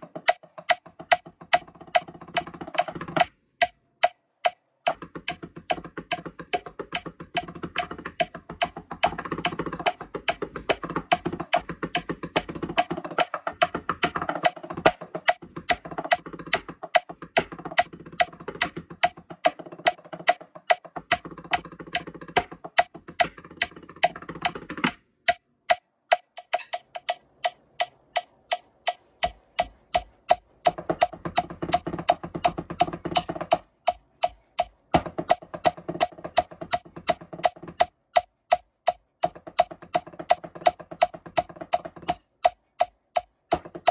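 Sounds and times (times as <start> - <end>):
metronome clicking: 0.0 - 43.9
sticks on drum practice pads: 0.0 - 43.9.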